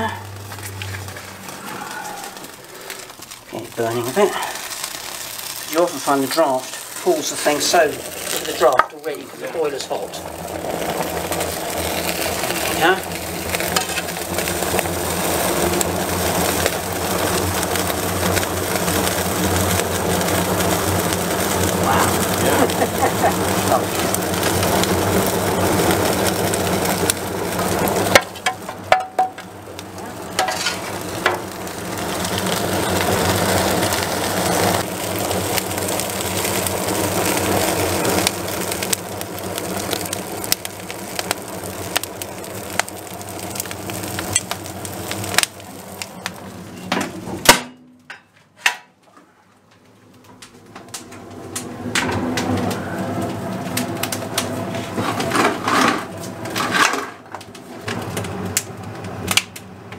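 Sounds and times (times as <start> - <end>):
low hum: 0.0 - 5.8, 6.6 - 48.2, 49.2 - 56.5
fire crackling: 0.0 - 59.9.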